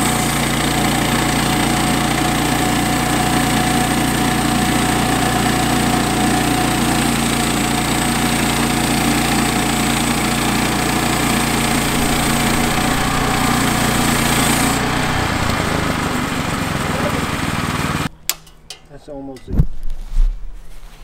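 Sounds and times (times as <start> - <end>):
small gas engine running: 0.0 - 18.1.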